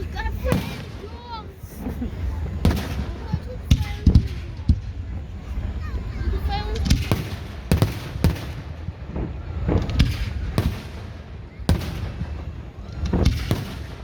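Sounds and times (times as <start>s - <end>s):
fireworks bangs with echo: 0.0s - 14.0s.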